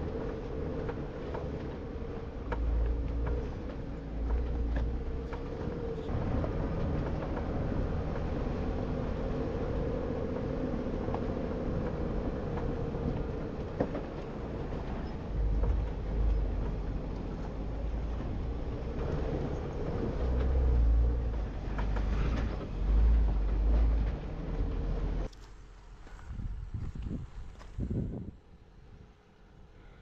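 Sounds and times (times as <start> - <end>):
body and suspension rattles: 0.0 - 25.3
engine running: 0.0 - 25.4
deep rumbles: 0.0 - 29.0.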